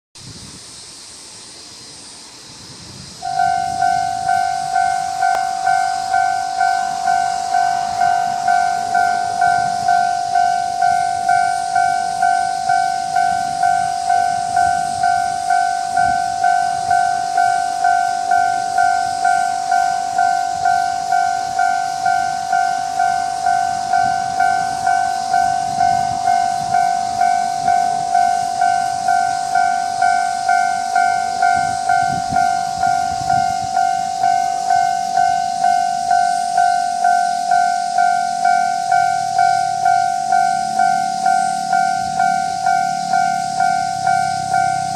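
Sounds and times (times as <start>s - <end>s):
level crossing warning bell: 3.2s - 44.9s.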